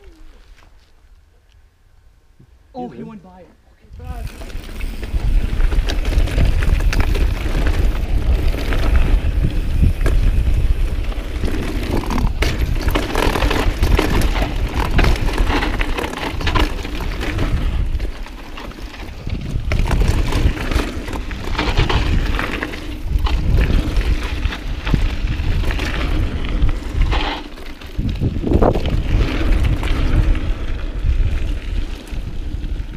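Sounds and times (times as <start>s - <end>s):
tyres on dirt: 3.4s - 32.9s
wind buffeting microphone: 3.8s - 32.9s
bike rattling over bumps: 4.0s - 32.9s.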